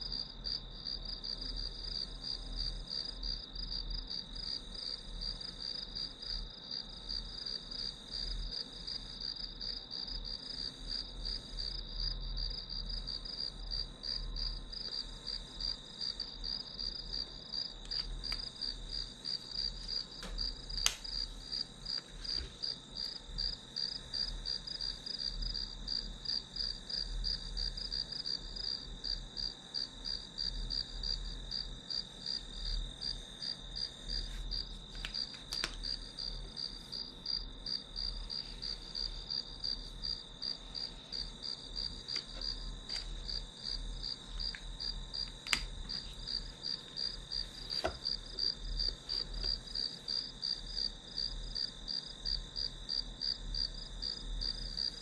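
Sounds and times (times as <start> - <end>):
crickets chirping: 0.0 - 55.0
high insect trill: 0.0 - 55.0.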